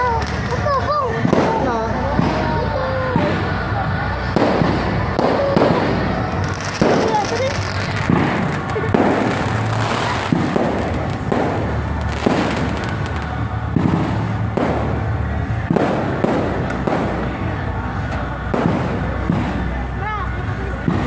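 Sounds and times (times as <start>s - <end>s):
firework shells bursting: 0.0s - 20.0s
low rumble of detonations: 0.0s - 21.0s.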